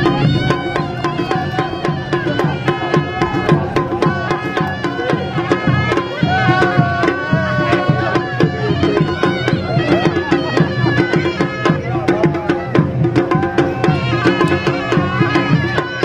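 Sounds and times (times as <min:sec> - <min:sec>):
fast drum beat: 0:00.0 - 0:16.0
folk melody line: 0:00.0 - 0:16.0.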